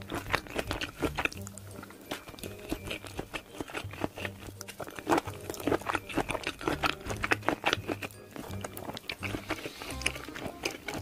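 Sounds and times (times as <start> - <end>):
mouth chewing clicks: 0.0 - 11.0.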